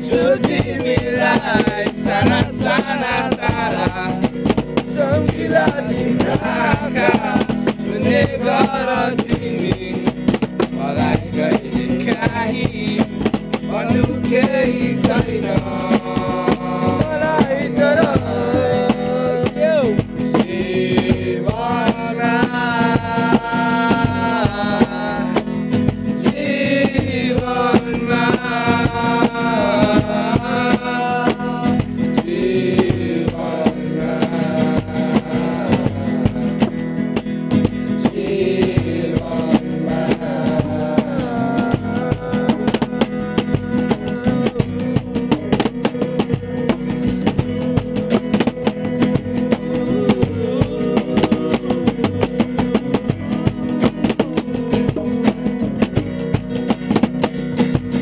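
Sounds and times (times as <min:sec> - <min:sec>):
person singing: 0:00.0 - 0:04.2, 0:04.8 - 0:10.1, 0:10.8 - 0:25.6, 0:26.2 - 0:36.8, 0:38.0 - 0:55.8
plucked guitar: 0:00.0 - 0:58.0
steady drum beat: 0:00.0 - 0:58.0.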